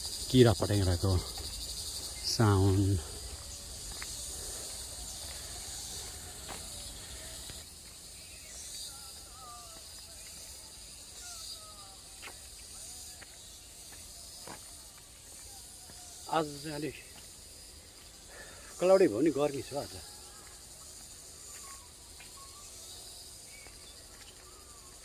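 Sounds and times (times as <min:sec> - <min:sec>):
insects calling: 0:00.0 - 0:25.0.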